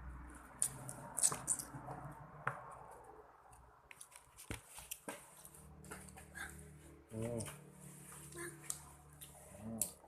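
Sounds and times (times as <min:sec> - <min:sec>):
soft chewing and mouth noises: 0:00.3 - 0:10.0.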